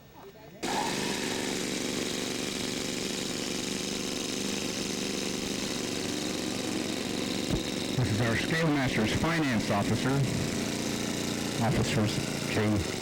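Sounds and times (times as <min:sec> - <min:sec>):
model airplane engine buzzing: 0:00.6 - 0:13.0.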